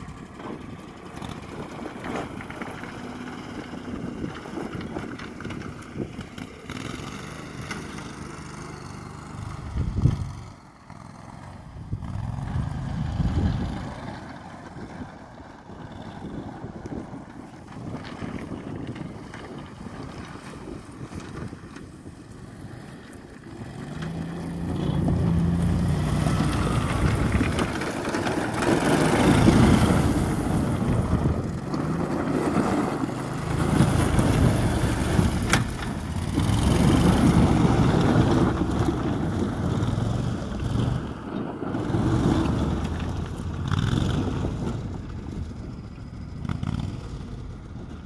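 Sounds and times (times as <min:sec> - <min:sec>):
amphibious vehicle engine running: 0:00.0 - 0:48.0.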